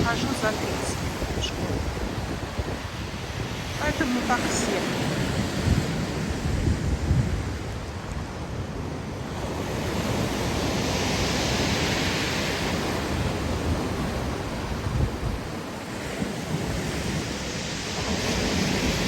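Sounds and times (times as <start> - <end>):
waves breaking on beach: 0.0 - 19.0
wind on microphone: 0.0 - 19.0.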